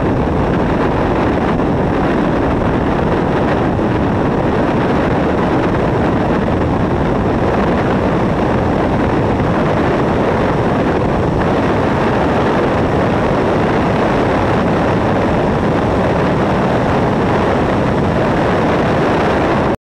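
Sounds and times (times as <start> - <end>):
wind buffeting: 0.0 - 19.8.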